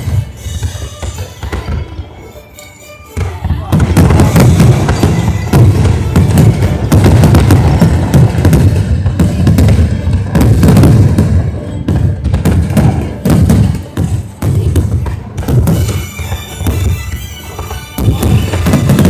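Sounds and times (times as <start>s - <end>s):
fireworks bangs and crackles: 0.0s - 2.2s, 3.2s - 19.0s
music playing: 0.0s - 19.0s.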